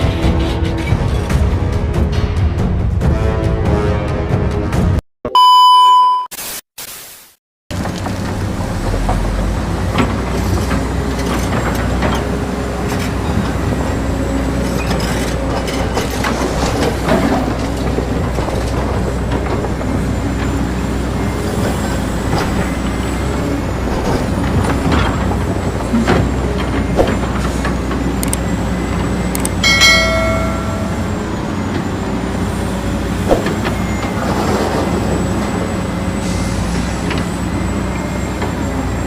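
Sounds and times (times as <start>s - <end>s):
diesel engine drone: 7.7s - 39.0s.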